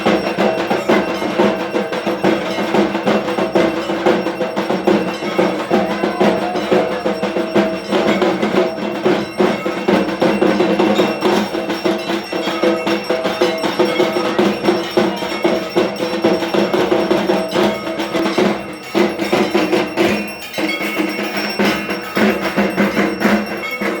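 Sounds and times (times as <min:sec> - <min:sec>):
drumming: 0:00.0 - 0:24.0
metal bells clanging: 0:00.0 - 0:24.0.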